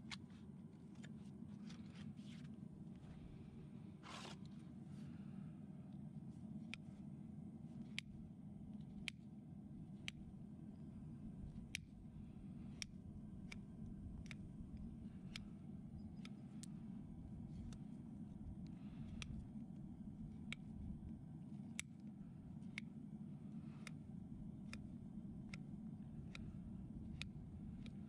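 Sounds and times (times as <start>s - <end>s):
faint low rumble: 0.0s - 28.0s.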